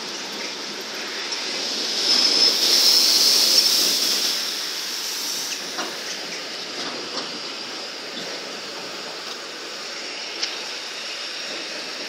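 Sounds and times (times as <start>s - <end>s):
electric train hissing: 0.0s - 12.0s.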